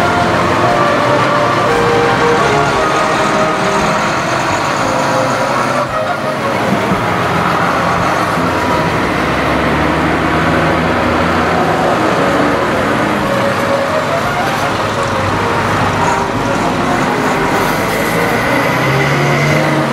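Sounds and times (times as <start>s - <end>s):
diesel tractor engines running: 0.0s - 19.9s.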